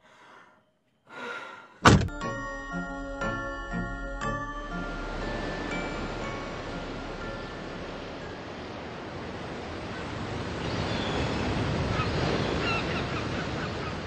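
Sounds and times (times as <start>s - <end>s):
ocean waves washing: 2.1s - 14.0s.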